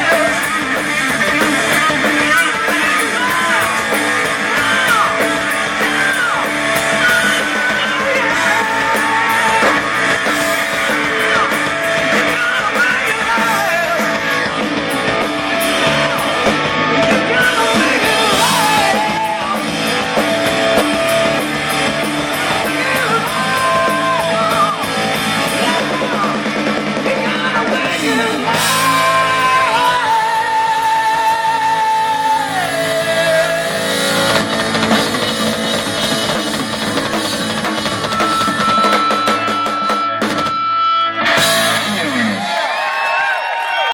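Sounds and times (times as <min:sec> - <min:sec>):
electric guitar lead: 0:00.0 - 0:43.9
rock band playing: 0:00.0 - 0:43.9.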